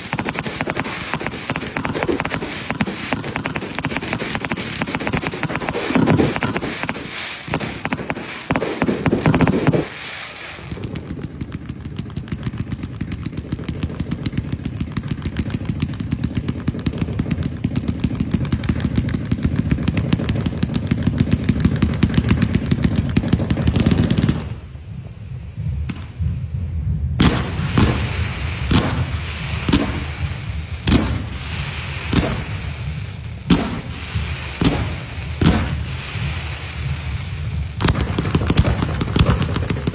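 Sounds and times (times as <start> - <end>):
firecracker loud bursts: 0.0 - 26.5, 27.2 - 39.9
firecrackers rattling: 0.0 - 26.6, 27.2 - 39.9
sharp firecracker bangs: 0.0 - 39.9.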